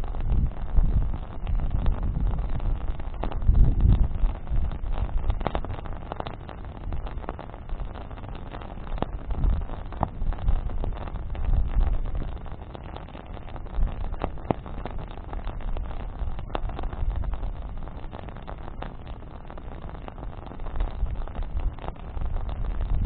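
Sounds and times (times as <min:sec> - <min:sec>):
bonfire crackling and popping: 0:00.0 - 0:23.0
low uneven rumble: 0:00.0 - 0:23.0.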